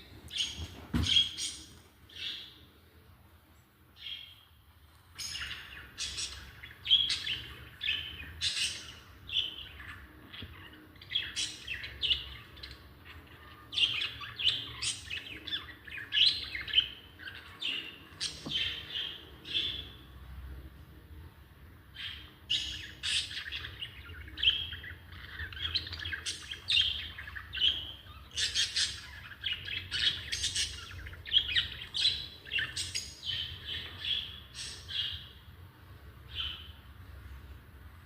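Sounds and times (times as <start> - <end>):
birds chirping and squawking: 0.0 - 2.7, 5.0 - 20.1, 21.9 - 35.6, 36.2 - 36.9.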